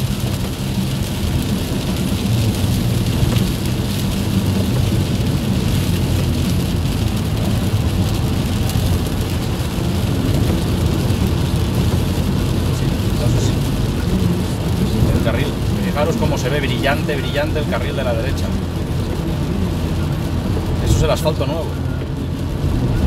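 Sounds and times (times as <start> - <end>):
engine and tyre drone: 0.0 - 23.0
tyres hissing on wet road: 0.0 - 23.0.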